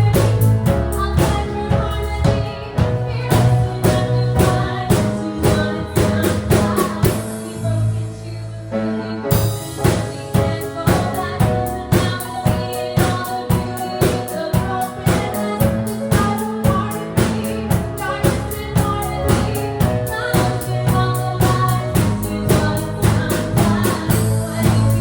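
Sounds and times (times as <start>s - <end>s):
drum kit beat: 0.0s - 7.4s, 9.3s - 25.0s.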